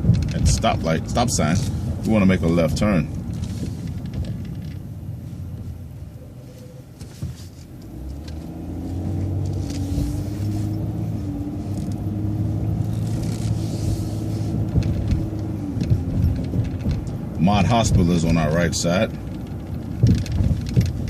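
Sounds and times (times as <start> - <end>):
bus engine rumbling: 0.0 - 21.0.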